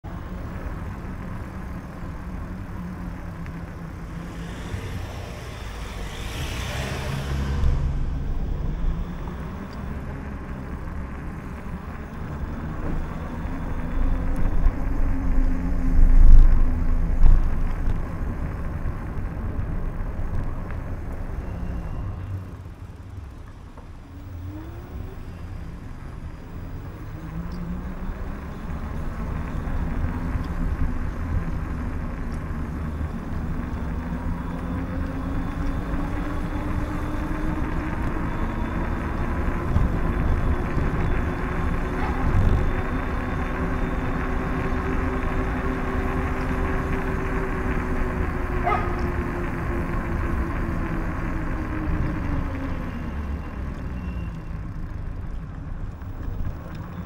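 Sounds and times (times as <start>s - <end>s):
car engines passing: 0.0s - 57.0s
wind rumble on microphone: 0.1s - 23.0s, 24.2s - 57.0s.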